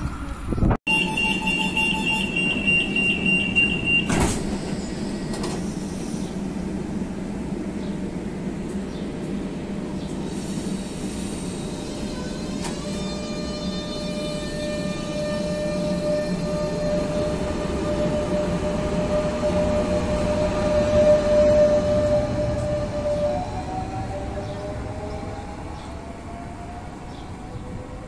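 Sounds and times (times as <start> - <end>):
electric train running hum: 0.0 - 28.0.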